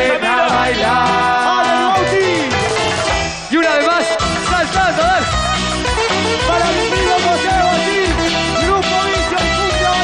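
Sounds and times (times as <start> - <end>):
live band playing cumbia: 0.0 - 10.0.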